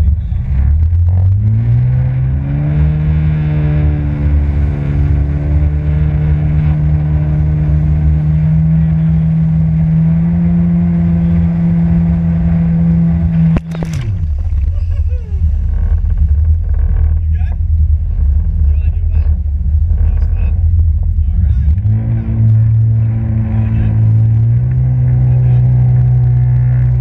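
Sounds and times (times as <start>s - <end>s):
jet ski engine: 0.0s - 27.0s.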